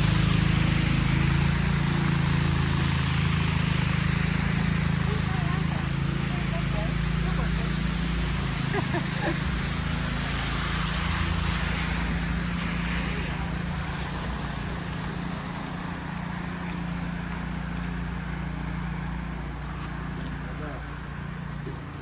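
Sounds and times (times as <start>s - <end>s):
tyres hissing on slush: 0.0s - 17.7s
vehicle engine humming: 0.0s - 22.0s.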